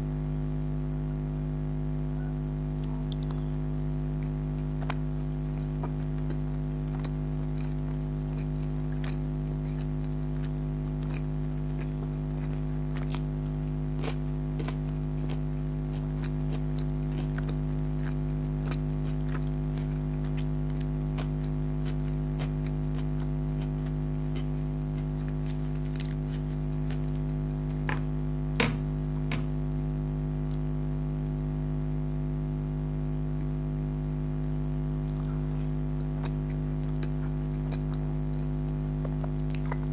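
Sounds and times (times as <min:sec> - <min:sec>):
steady low hum: 0:00.0 - 0:39.9
person chewing food: 0:02.8 - 0:31.4, 0:34.5 - 0:39.9.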